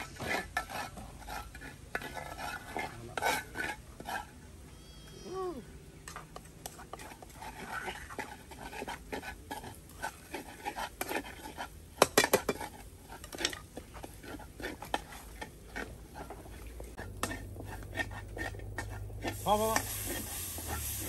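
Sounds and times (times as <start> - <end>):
metal spatula scraping frying pan: 0.0 - 4.4, 6.7 - 21.0.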